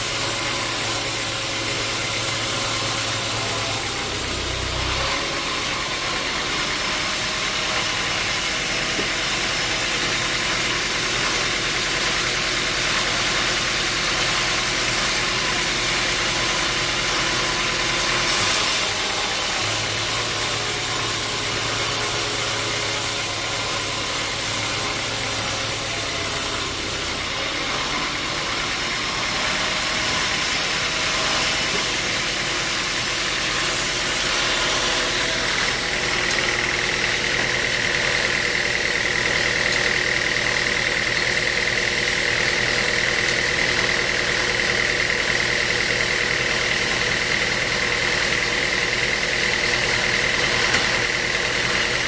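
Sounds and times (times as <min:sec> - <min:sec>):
sawmill machinery droning: 0:00.0 - 0:52.0.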